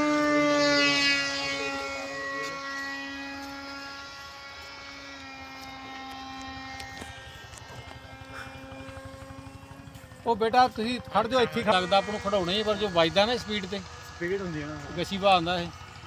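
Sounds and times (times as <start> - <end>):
model jet motor whine: 0.0 - 16.0.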